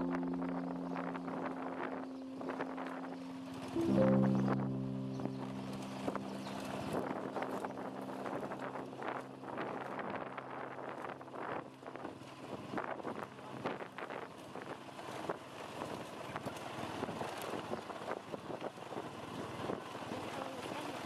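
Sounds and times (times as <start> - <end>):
vehicle running noise: 0.0 - 21.0
wind buffeting the microphone: 0.0 - 21.0.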